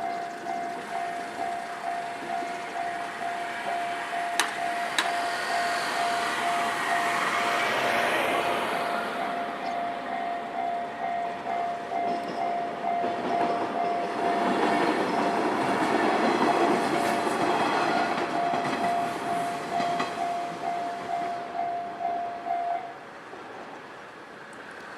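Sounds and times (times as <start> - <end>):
level crossing warning bell: 0.0 - 23.0
train wheels on rails: 0.0 - 24.9.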